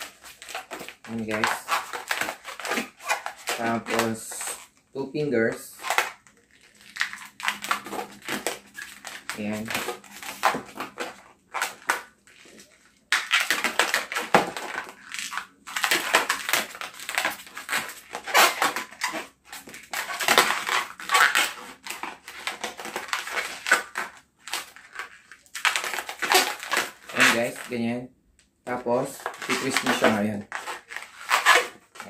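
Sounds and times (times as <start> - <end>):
balloon rubbing and squeaking: 0.0 - 4.7, 5.4 - 28.0, 28.9 - 32.0.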